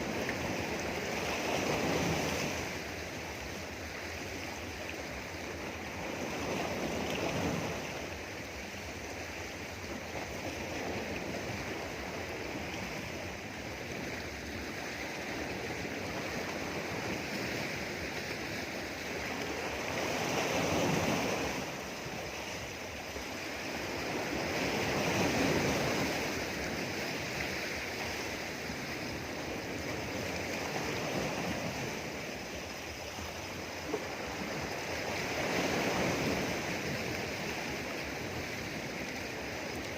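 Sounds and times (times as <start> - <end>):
sea waves washing against rocks: 0.0 - 39.9.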